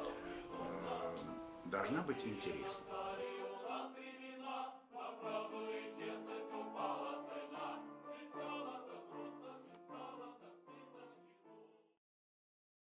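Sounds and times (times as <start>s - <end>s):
choir singing sustained notes: 0.0s - 12.0s.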